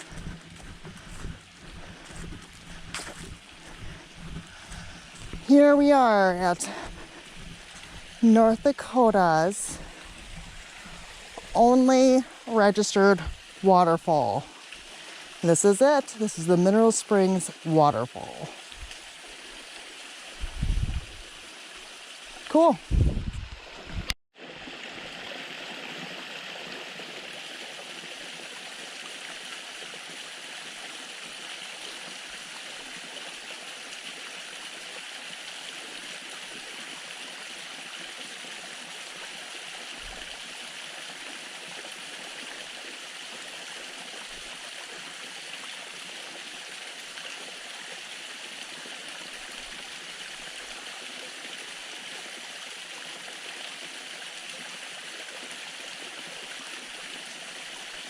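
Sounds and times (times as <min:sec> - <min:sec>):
small waterfall rushing: 0:00.0 - 0:58.0.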